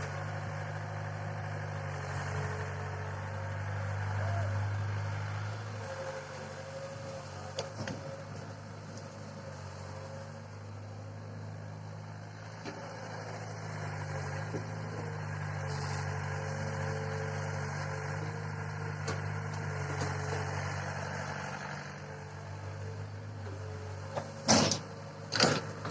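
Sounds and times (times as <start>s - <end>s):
heavy machinery engine running: 0.0s - 25.9s.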